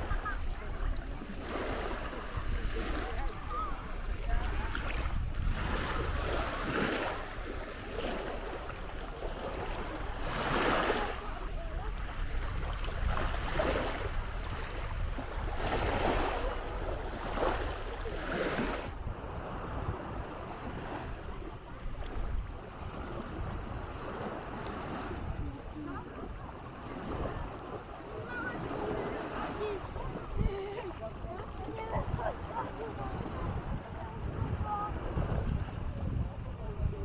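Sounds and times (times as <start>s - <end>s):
waves breaking on beach: 0.0s - 37.0s
wind on microphone: 0.0s - 37.0s.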